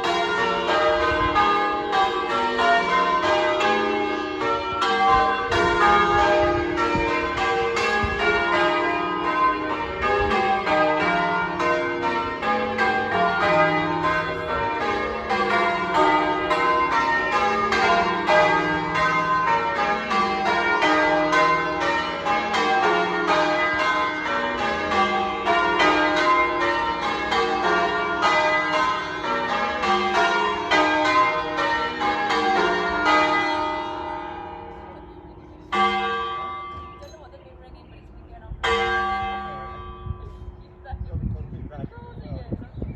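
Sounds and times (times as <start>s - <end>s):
church bells ringing: 0.0s - 41.0s.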